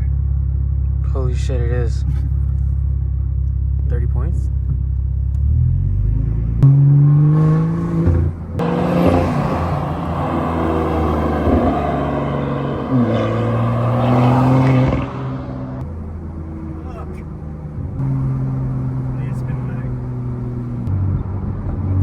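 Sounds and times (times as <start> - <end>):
car engine accelerating: 2.0 - 22.0.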